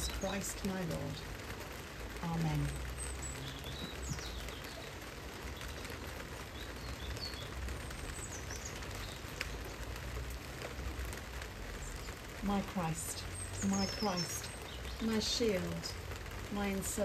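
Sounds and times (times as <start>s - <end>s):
rain on corrugated roof: 0.0s - 17.0s.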